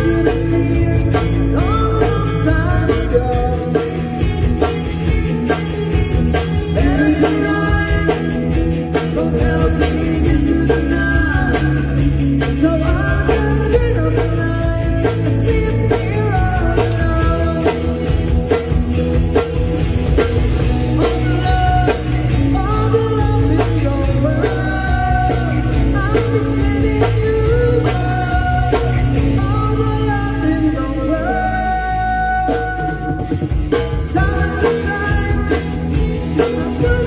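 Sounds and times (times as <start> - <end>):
person singing: 0.0 - 4.3, 6.6 - 18.6, 20.7 - 37.0
bass guitar: 0.0 - 37.0
drum kit: 0.0 - 37.0
electric guitar: 0.0 - 37.0.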